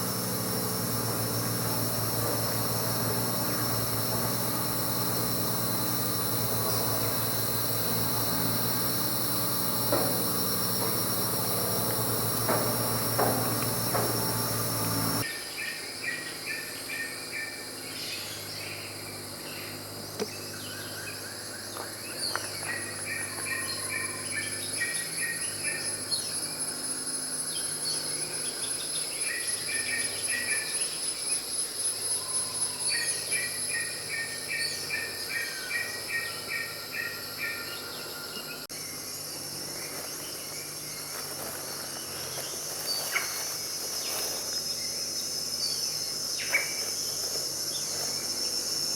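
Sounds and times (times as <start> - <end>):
insects buzzing: 0.0 - 48.9.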